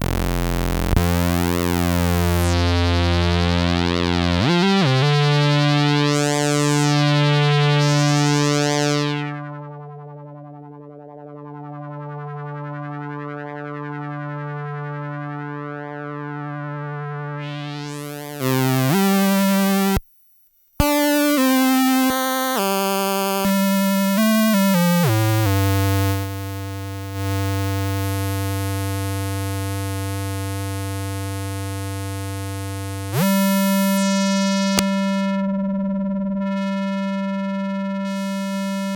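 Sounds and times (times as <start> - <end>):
buzzy synthesizer notes: 0.0 - 10.2, 16.4 - 20.0, 20.8 - 38.9.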